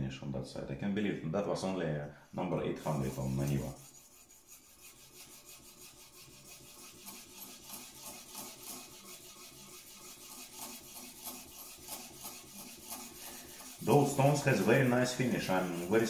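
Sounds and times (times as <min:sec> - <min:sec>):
knife grinding on whetstone: 0:02.8 - 0:16.0.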